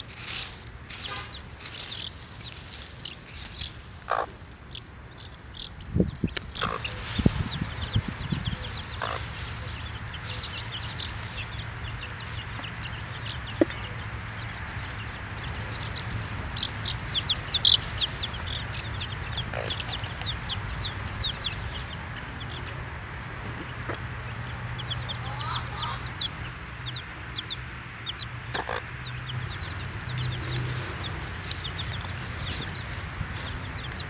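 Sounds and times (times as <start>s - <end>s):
baby chicks peeping: 0.0s - 34.0s.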